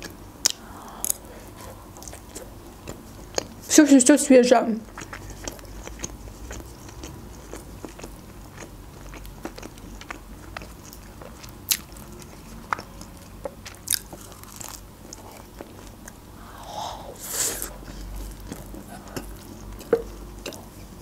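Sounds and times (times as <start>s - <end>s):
person chewing food: 0.0s - 3.7s, 4.8s - 21.0s.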